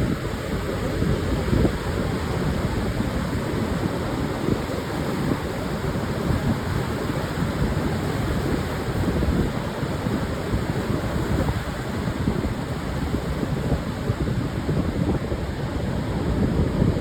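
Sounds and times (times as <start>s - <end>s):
waves breaking on a beach: 0.0s - 17.0s
wind buffeting the microphone: 0.0s - 17.0s.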